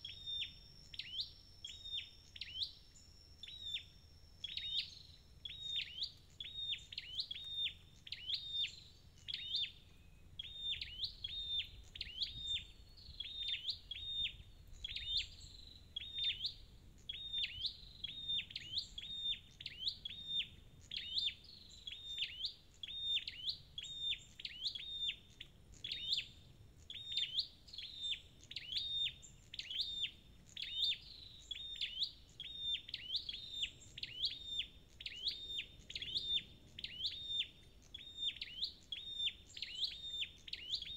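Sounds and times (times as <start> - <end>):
bird sharp high chirp: 0.0 - 40.9.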